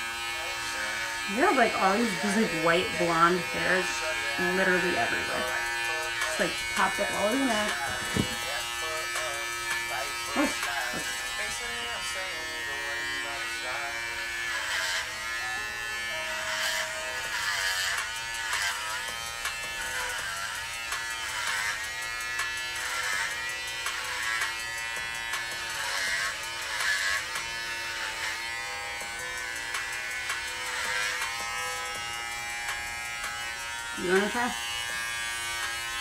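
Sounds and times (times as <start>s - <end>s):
electric hair clippers buzzing: 0.0s - 36.0s.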